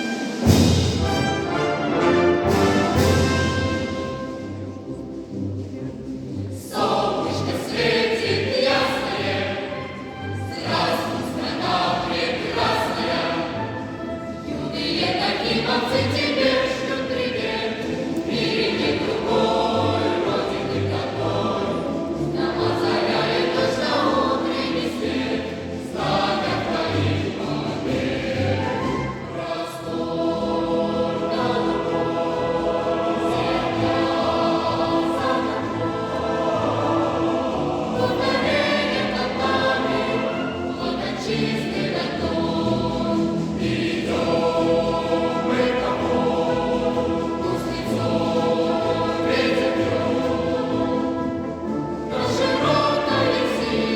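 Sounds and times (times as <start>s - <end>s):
military brass band: 0.0s - 6.1s, 6.8s - 53.9s
children's choir singing a march: 0.0s - 53.9s.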